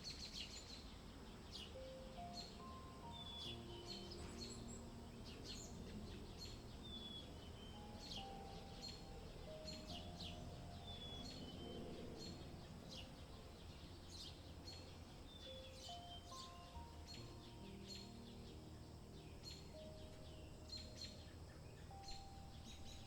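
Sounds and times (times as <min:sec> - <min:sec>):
birds chirping: 0:00.0 - 0:23.0
soft ambient music: 0:00.0 - 0:23.0
low ambient rumble: 0:00.9 - 0:23.0.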